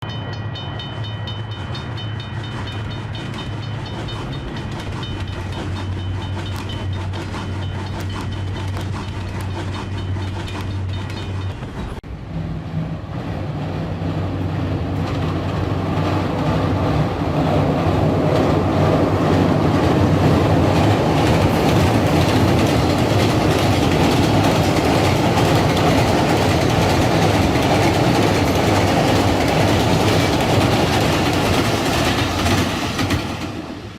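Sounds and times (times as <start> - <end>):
train wheels clattering: 0.0 - 12.0, 13.6 - 33.9
train rumble: 0.0 - 33.9.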